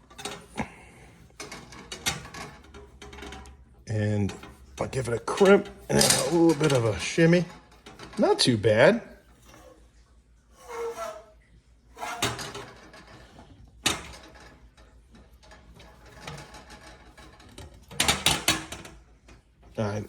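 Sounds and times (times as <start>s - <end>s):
pliers scraping copper pipe: 0.0s - 8.5s, 10.6s - 11.4s, 12.0s - 19.0s
metal rattling: 0.0s - 20.0s.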